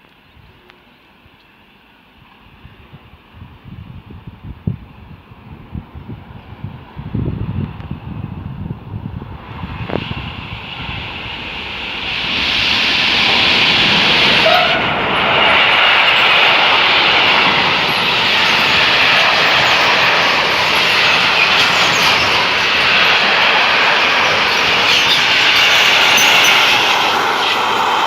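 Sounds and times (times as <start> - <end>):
train passing close by: 0.0 - 28.0.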